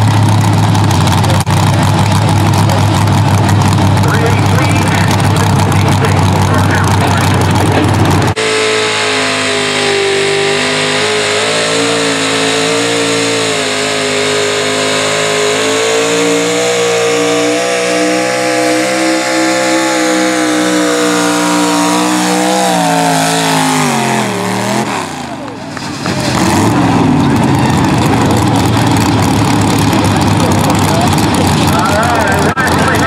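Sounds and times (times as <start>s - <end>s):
truck engine at high revs: 0.0s - 33.0s.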